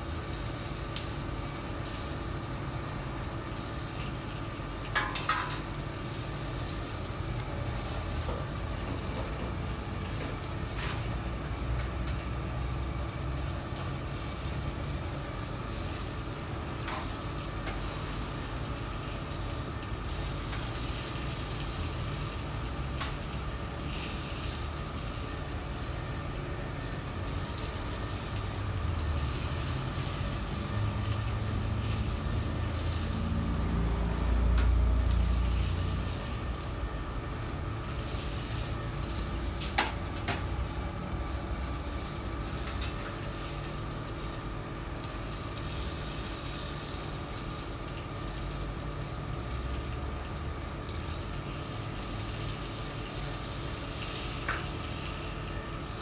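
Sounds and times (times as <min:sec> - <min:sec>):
kitchen hiss and hum: 0:00.0 - 0:56.0.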